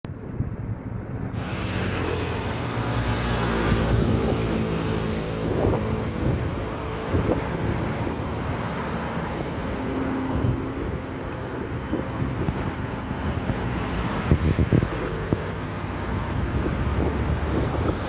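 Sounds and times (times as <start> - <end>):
road and wind noise: 0.0 - 18.0
vehicle engine hum: 0.1 - 18.0.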